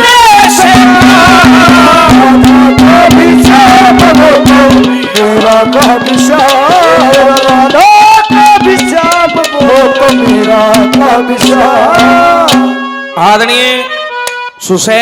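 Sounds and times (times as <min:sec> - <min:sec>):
ornamented folk melody: 0:00.0 - 0:14.7
hand drum rhythm: 0:00.1 - 0:13.0.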